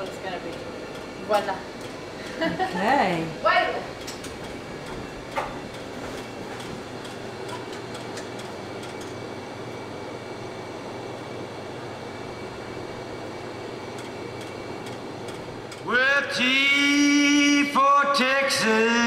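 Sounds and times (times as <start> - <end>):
disc-changer mechanism running: 0.0 - 19.0.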